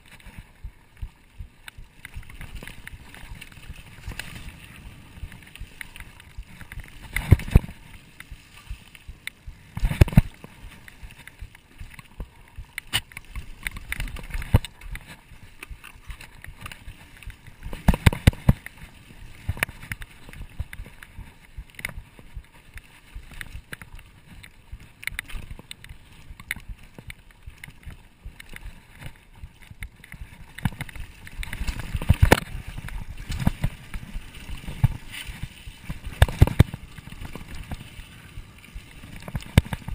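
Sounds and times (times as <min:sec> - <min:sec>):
mountain bike rattling and clicking: 0:00.0 - 0:39.9.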